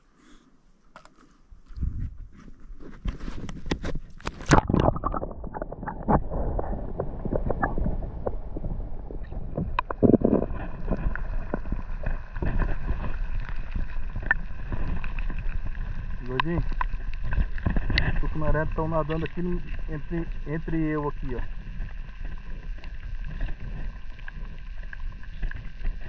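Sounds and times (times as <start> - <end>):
water gurgling: 1.0 - 26.0
muffled underwater rumble: 1.6 - 26.0
knocks and splashes in water: 1.8 - 26.0.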